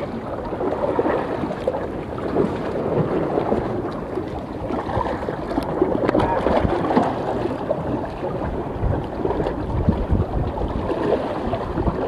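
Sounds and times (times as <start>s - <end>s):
sea waves against rocks: 0.0s - 12.0s
wind buffeting microphone: 0.0s - 12.0s.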